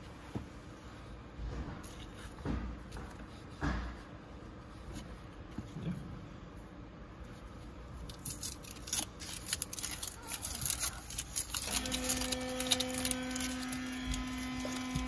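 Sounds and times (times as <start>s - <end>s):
low hum with overtones: 0.0s - 15.0s.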